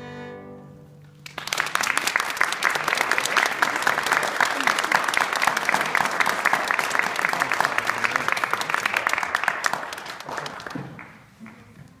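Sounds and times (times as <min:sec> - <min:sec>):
audience applauding: 0:01.1 - 0:12.0.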